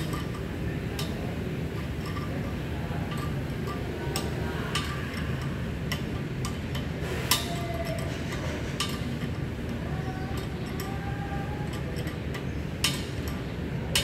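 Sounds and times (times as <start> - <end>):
steady low hum: 0.0 - 14.0
wrench clicking on metal: 0.0 - 14.0.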